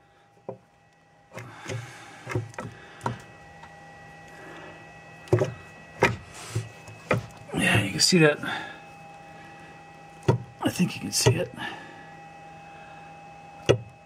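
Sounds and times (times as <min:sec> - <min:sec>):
faint steady whine: 0:00.0 - 0:14.0.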